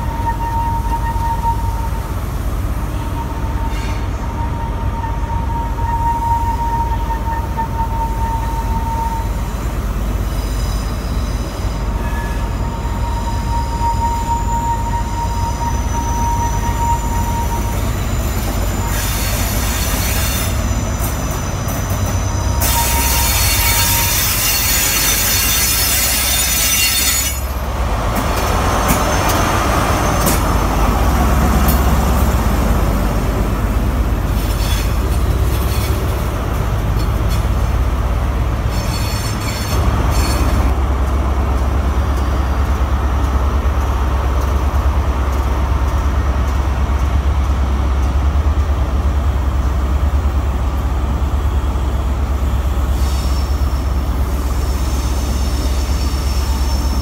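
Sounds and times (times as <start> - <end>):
train wheel hiss and squeal: 0.0 - 32.4, 33.8 - 40.8, 49.5 - 57.0.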